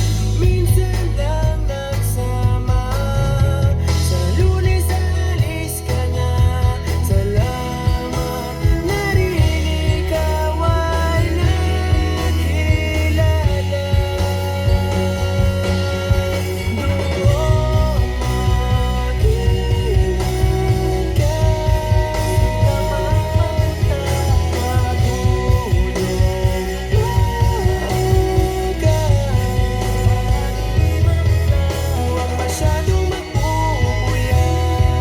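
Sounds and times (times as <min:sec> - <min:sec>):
guitar: 0:00.0 - 0:35.0
heavy pulsing bass: 0:00.0 - 0:35.0
person singing: 0:00.0 - 0:35.0
song over car audio system: 0:00.0 - 0:35.0.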